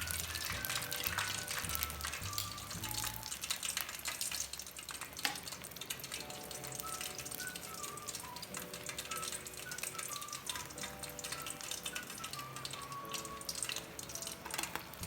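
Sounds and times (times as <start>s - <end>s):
light background music: 0.0s - 3.5s, 6.1s - 15.0s
food frying in hot oil: 0.0s - 15.0s.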